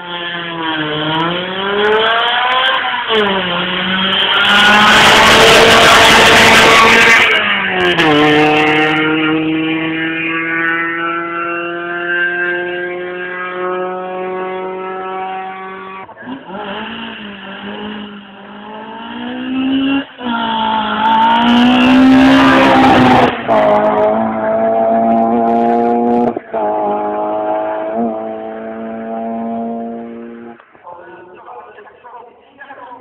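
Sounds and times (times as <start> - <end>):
race car engine accelerating: 0.0 - 30.7.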